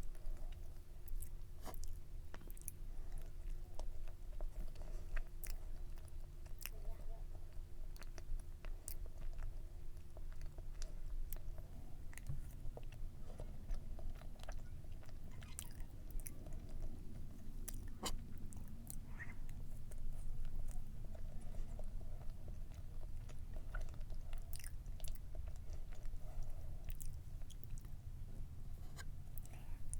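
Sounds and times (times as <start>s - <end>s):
person chewing cake: 0.0s - 29.9s.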